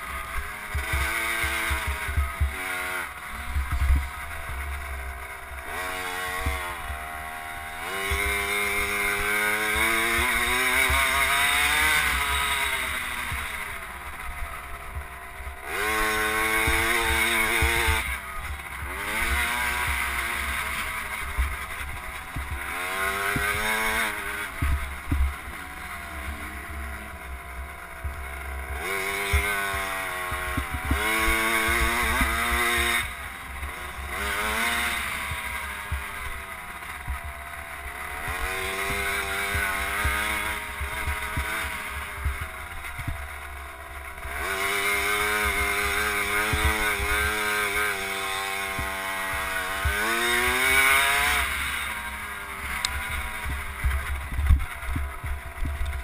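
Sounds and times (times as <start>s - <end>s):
two-stroke motorbike engine revving: 0.0s - 56.0s.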